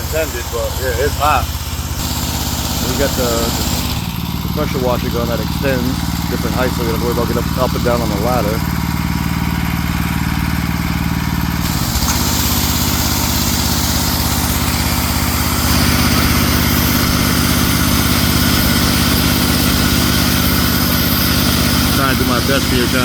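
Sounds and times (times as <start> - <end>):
high-pressure water spraying: 0.0 - 23.0
pressure washer engine running: 0.0 - 23.0.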